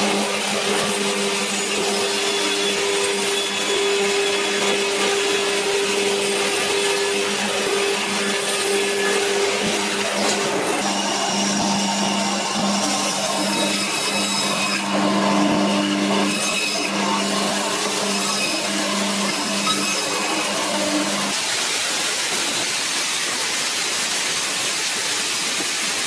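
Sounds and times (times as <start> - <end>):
band saw motor hum: 0.0 - 21.6.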